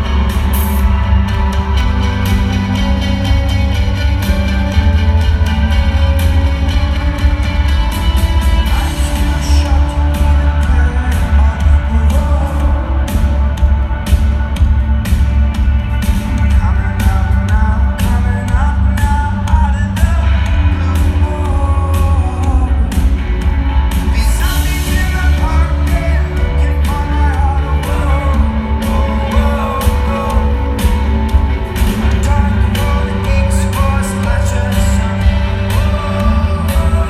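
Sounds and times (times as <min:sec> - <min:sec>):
man singing lead vocal: 0:00.0 - 0:14.3, 0:15.9 - 0:37.0
live rock band playing: 0:00.0 - 0:37.0.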